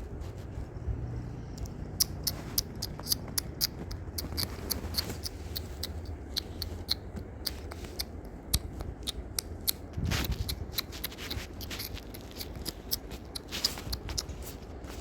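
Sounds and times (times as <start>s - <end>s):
crisp crunching of cookie eating: 1.9s - 15.0s.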